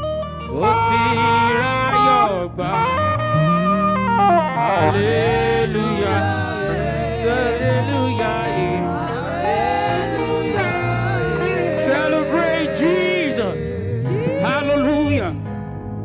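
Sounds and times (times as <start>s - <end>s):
stepping bass line: 0.0s - 15.3s
live gospel music: 0.0s - 16.0s.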